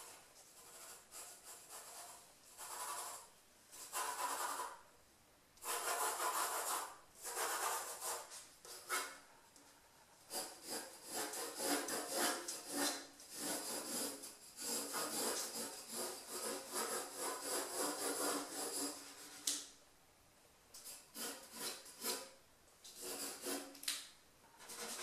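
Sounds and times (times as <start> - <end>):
pencil scratching on paper: 0.0 - 4.8, 5.6 - 9.3, 10.3 - 19.5, 20.8 - 22.3, 22.9 - 23.8, 24.6 - 25.0.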